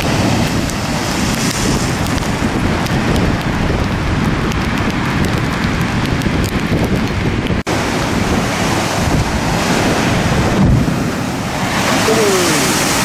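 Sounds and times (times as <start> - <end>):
big waves breaking: 0.0 - 13.0
wind rumbling on microphone: 0.0 - 13.0.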